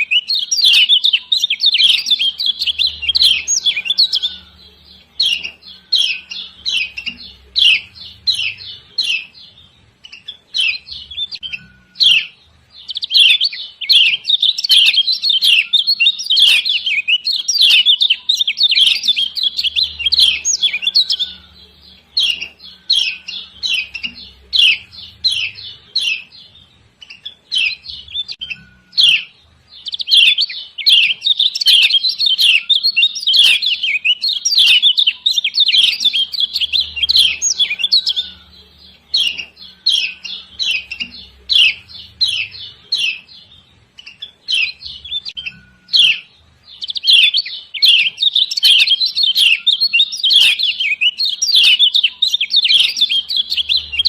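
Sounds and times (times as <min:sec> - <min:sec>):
bird high sharp chirps: 0:00.0 - 0:54.0.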